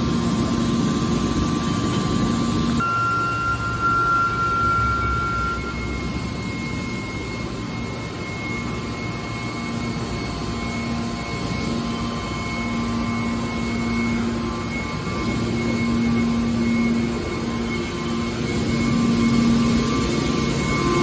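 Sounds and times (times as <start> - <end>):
high whine: 0.0 - 21.0
hydraulic machine hum: 0.0 - 21.0.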